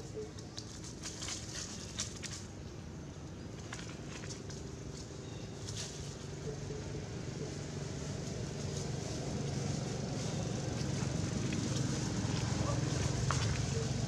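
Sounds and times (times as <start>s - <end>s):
dry leaves rustling: 0.0s - 14.0s
low motor hum: 2.4s - 14.0s.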